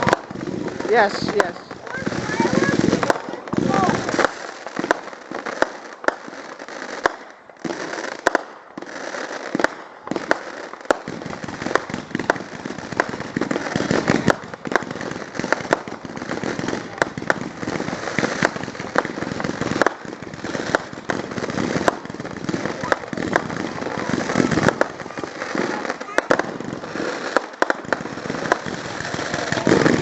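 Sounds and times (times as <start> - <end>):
fireworks bangs: 0.0 - 30.0
fireworks crackle: 0.0 - 30.0.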